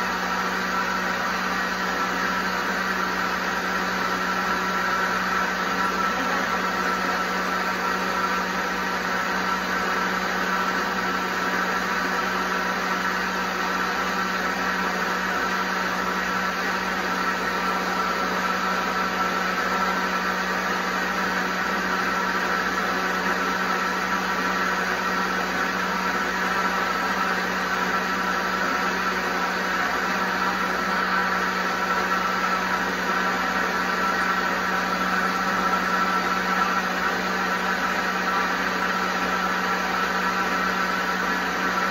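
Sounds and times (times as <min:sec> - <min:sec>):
blender motor whining: 0:00.0 - 0:41.9.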